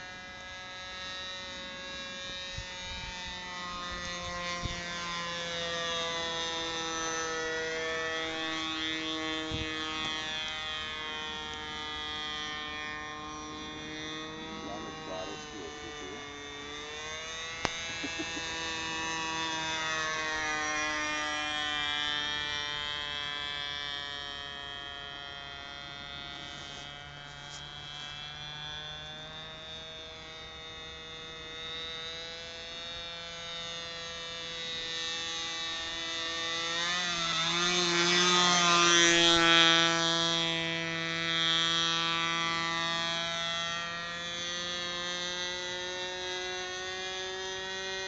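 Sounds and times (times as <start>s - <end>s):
model airplane motor whining: 0.0s - 48.0s.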